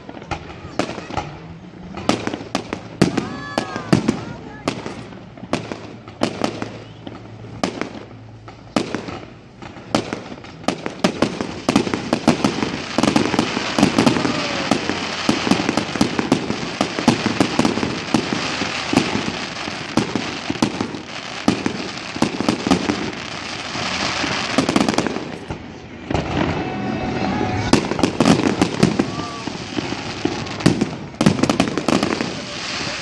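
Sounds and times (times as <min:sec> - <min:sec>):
crackling pops: 0:00.0 - 0:26.6
fireworks bangs: 0:00.0 - 0:33.0.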